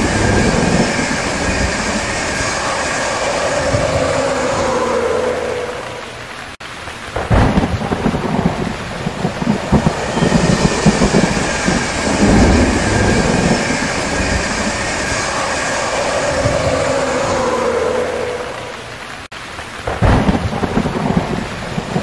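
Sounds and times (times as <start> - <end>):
train wheels rumbling on rails: 0.0 - 19.3
steady hiss: 0.0 - 22.0.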